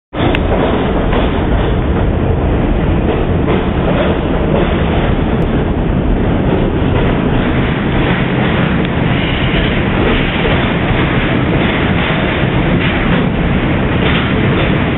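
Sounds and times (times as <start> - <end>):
train wheels on track: 0.1 - 14.9.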